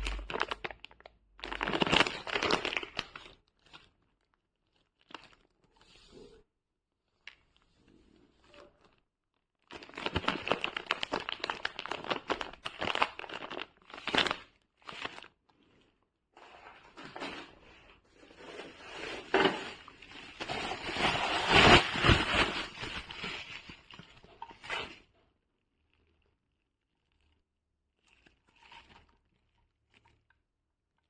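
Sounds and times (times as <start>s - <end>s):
crinkling and crunching handling noise: 0.0s - 6.5s, 7.1s - 26.2s.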